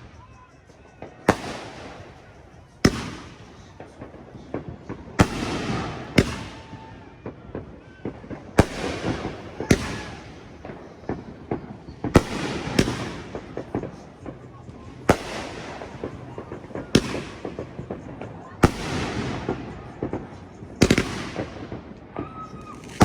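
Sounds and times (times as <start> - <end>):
fireworks bangs: 0.0 - 23.0
fireworks crackling pops: 0.0 - 23.0.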